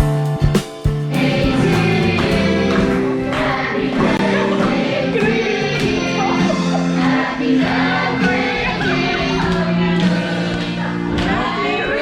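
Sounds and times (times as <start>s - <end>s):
instrumental backing: 0.0s - 12.0s
people singing: 1.1s - 12.0s.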